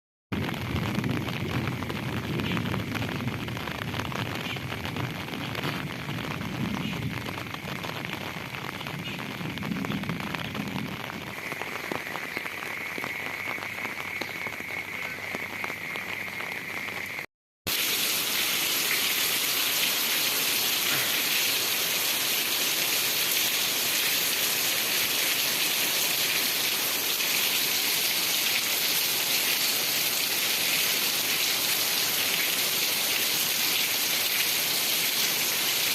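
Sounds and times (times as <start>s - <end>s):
heavy rain spattering: 0.3s - 35.9s.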